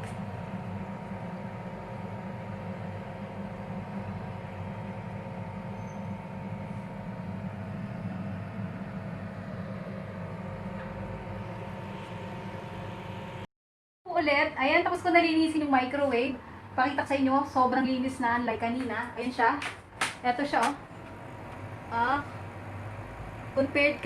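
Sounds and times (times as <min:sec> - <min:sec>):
microwave oven running: 0:00.0 - 0:13.5, 0:14.2 - 0:24.0.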